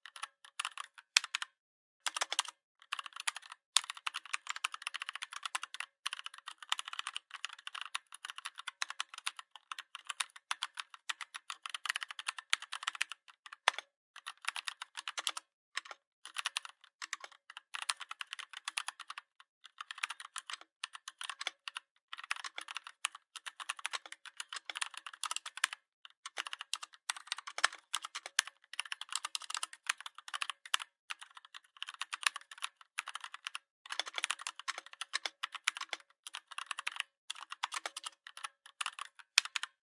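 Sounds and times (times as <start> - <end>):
keyboard typing clicks: 0.0 - 9.4, 13.6 - 19.2, 19.8 - 39.8.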